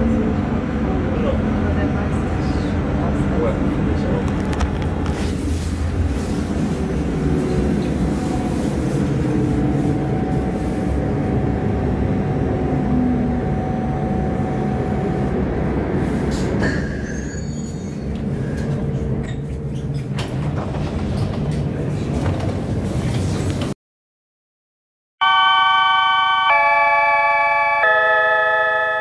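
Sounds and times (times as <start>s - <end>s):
tram rumbling on track: 0.0s - 23.8s.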